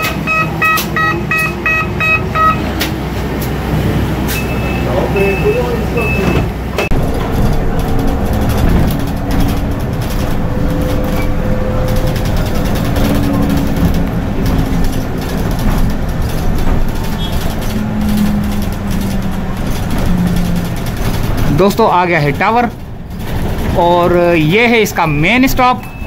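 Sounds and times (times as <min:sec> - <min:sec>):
bus body rattling: 0:00.0 - 0:26.0
road and tyre noise: 0:00.0 - 0:26.0.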